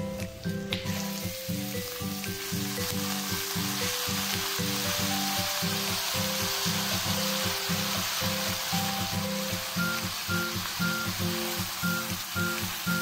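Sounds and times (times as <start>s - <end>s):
background music with steady beat: 0.0s - 13.0s
food sizzling in frying pan: 0.0s - 13.0s.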